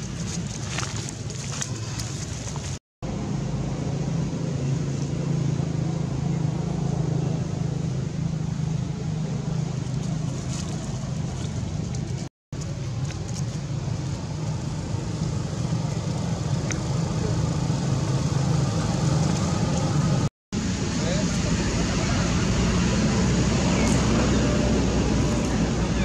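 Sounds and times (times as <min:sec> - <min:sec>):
low mechanical hum: 0:00.0 - 0:26.0
outdoor background noise: 0:00.0 - 0:26.0.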